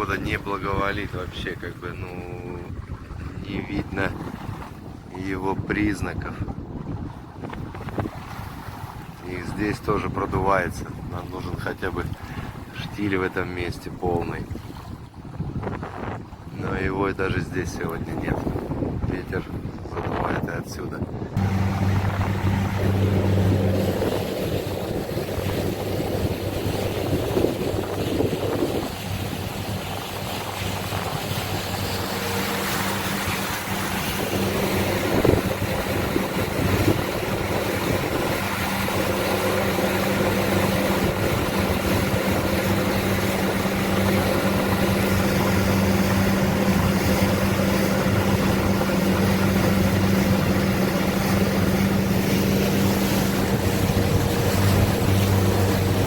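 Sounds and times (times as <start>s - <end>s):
motorboat engine humming: 0.0s - 16.5s, 21.0s - 56.0s
wind and water rushing: 0.0s - 56.0s.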